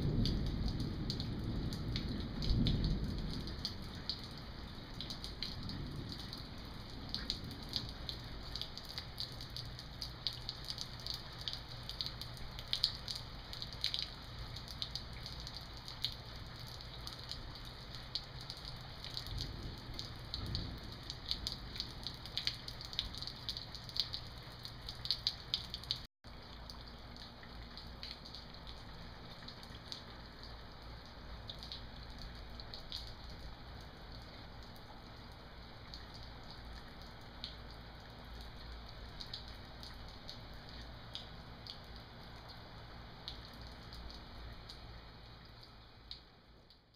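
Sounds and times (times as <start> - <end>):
rain falling: 0.0 - 46.9
raindrops ticking on hard surface: 0.0 - 46.9.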